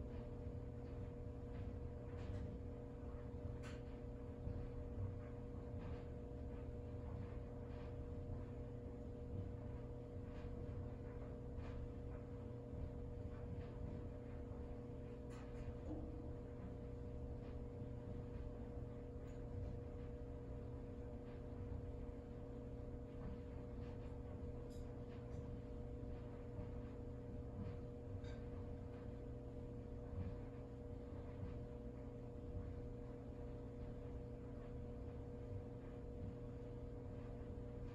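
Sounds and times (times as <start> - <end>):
low electrical hum: 0.0 - 37.9.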